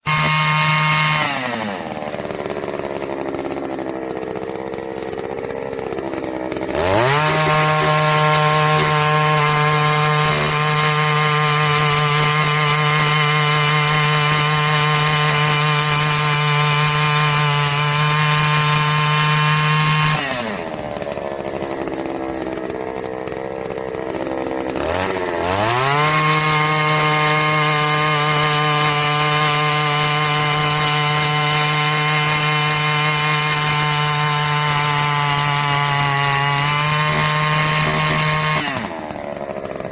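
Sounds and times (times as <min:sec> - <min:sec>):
earth auger engine revving: 0:00.0 - 0:39.9.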